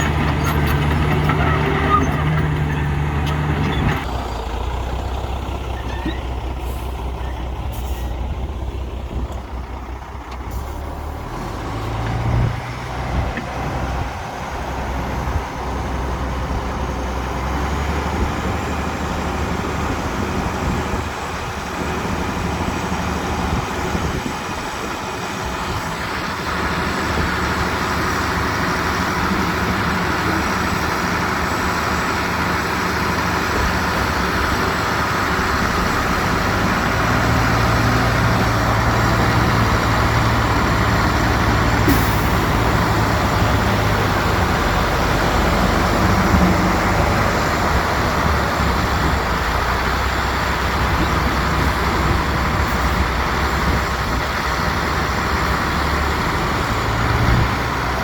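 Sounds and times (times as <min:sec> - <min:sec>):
diesel machinery engines running: 0:00.0 - 0:58.0.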